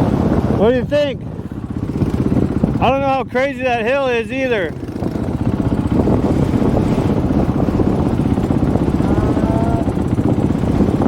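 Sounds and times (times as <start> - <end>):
wind buffeting microphone: 0.0 - 11.0
dirt bike engine idling: 1.2 - 11.0.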